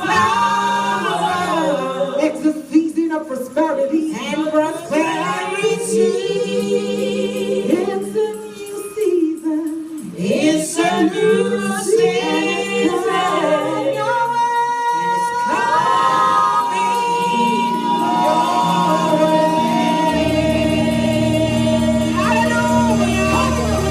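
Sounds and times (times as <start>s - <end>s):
choir singing gospel: 0.0s - 23.9s.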